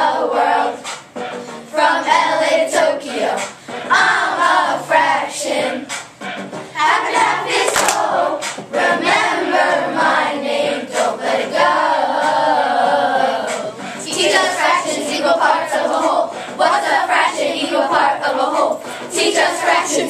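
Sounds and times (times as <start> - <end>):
backing music track: 0.0 - 20.0
children rapping in unison: 0.0 - 20.0.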